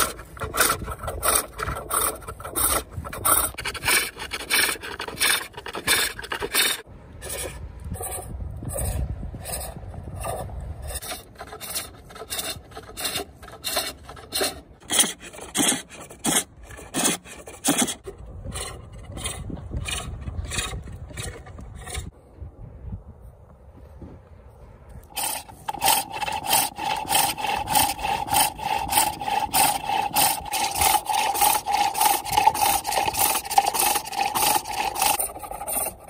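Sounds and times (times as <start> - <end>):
rasping scrape of wood turning: 0.0 - 22.1, 25.1 - 36.0.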